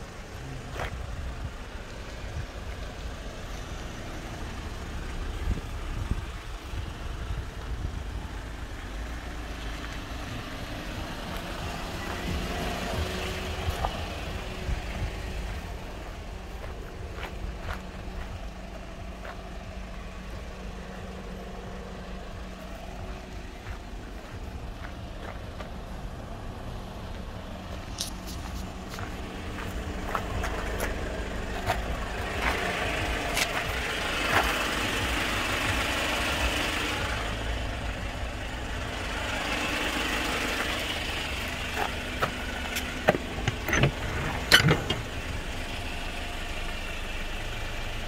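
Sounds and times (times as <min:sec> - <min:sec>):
low rumble of traffic: 0:00.0 - 0:48.0.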